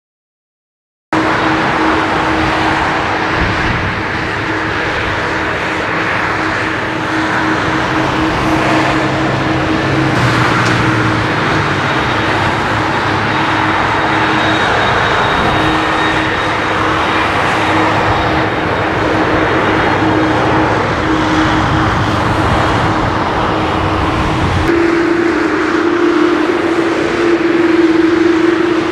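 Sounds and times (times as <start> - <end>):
jet engines taxiing: 1.2 - 28.9.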